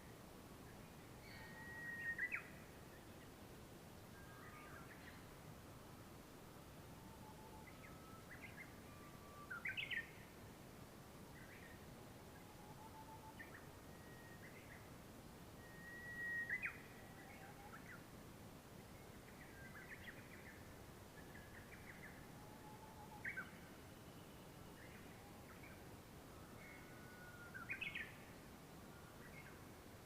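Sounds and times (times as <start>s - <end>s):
low steady hiss: 0.0s - 30.0s.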